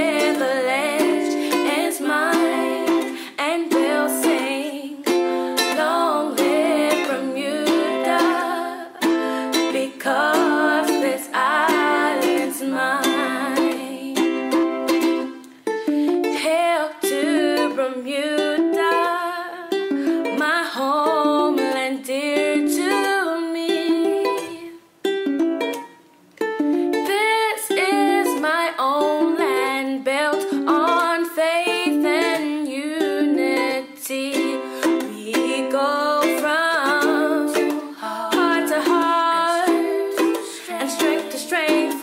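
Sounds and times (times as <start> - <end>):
woman singing: 0.0 - 14.6, 16.2 - 24.8, 27.0 - 42.0
ukulele strumming: 0.0 - 42.0.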